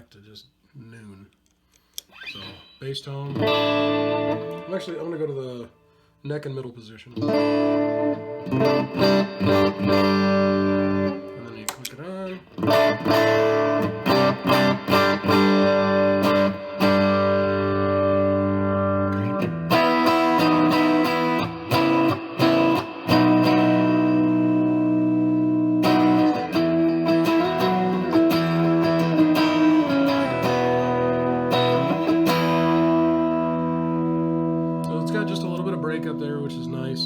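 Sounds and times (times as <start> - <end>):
overdriven electric guitar chords: 2.1 - 6.1, 7.2 - 37.0.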